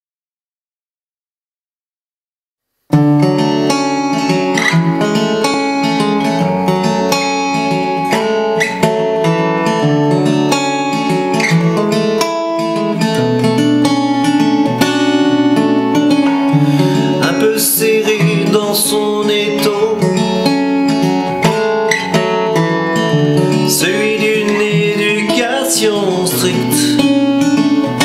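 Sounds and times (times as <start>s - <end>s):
acoustic guitar picking: 2.9s - 28.0s.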